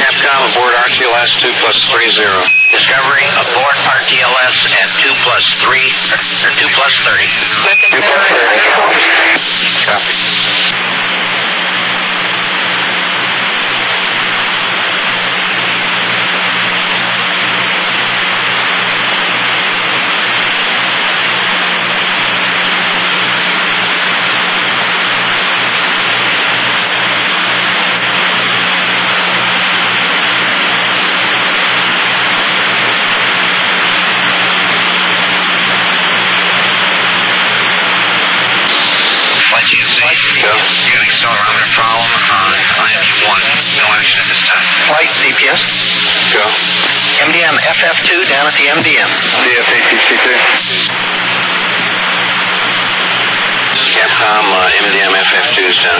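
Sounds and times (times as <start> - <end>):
low steady hum: 0.0 - 55.9
radio static hiss: 0.0 - 55.9.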